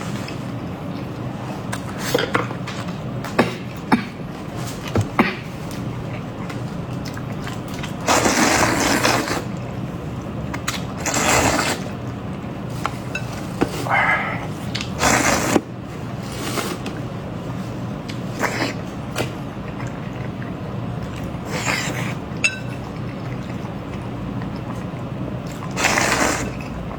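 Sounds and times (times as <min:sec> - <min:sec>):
mouth and food eating noise: 0:00.0 - 0:26.9.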